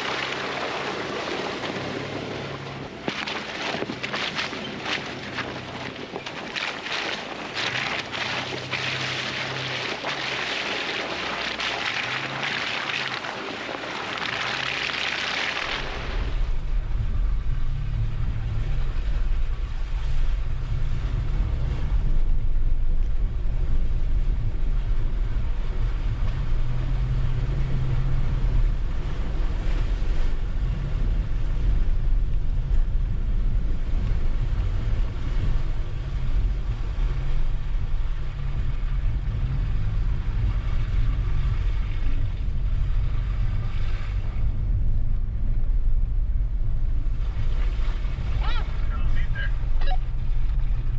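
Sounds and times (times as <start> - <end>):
vehicle engine rumbling: 0.0 - 50.9.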